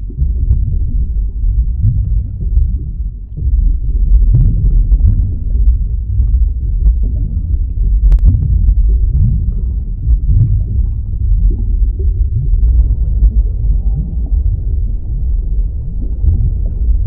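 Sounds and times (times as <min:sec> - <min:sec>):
underwater ocean rumble: 0:00.0 - 0:17.0.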